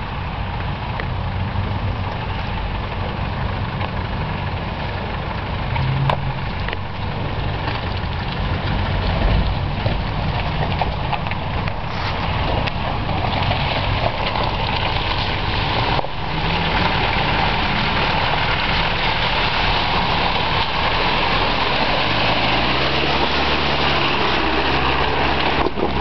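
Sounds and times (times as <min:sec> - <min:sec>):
diesel engine at low revs: 0:00.0 - 0:26.0.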